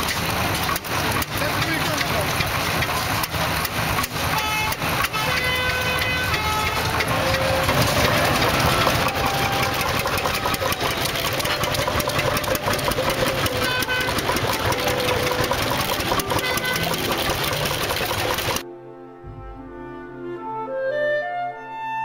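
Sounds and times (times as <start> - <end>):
tractor engine knocking: 0.0 - 18.6.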